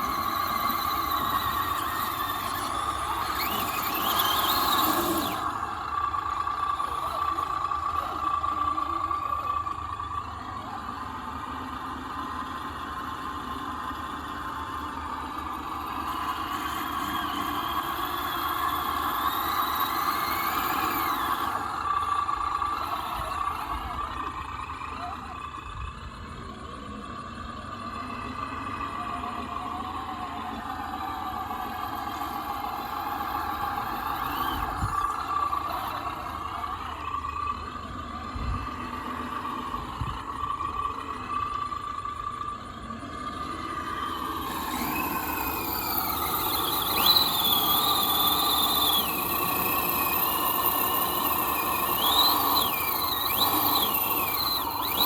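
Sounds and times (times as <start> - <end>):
electric motor and gears whining: 0.0 - 55.0.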